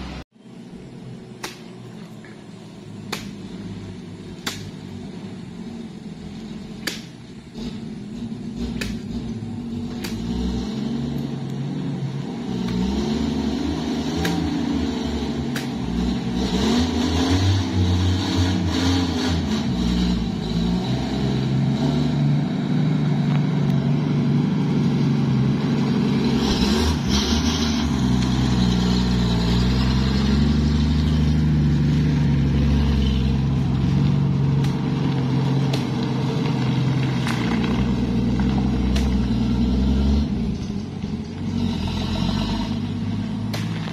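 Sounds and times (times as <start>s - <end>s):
car engine revving on muddy track: 2.9s - 43.9s.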